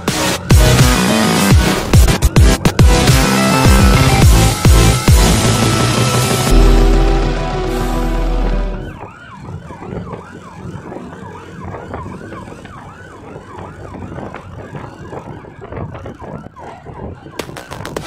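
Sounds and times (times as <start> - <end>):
motorbike road noise: 0.0 - 17.9
siren yelping: 0.1 - 17.5.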